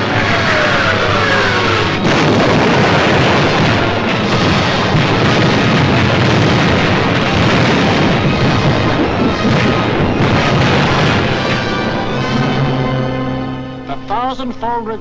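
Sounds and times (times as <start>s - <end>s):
explosions: 0.0s - 14.2s
anti-aircraft fire: 0.0s - 14.8s
orchestral film music: 0.0s - 15.0s.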